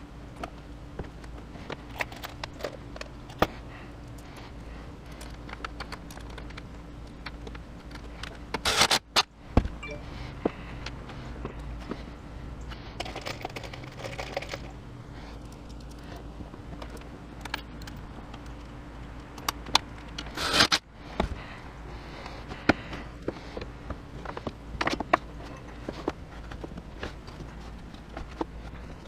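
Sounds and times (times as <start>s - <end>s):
steady low hum: 0.0s - 29.0s
sharp clicks and scraping: 0.3s - 9.3s, 12.6s - 20.9s, 22.2s - 29.0s.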